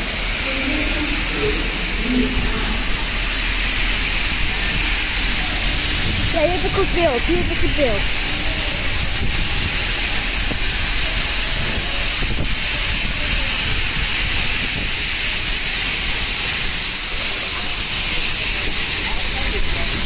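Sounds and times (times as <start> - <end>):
steam locomotive venting steam: 0.0 - 20.0.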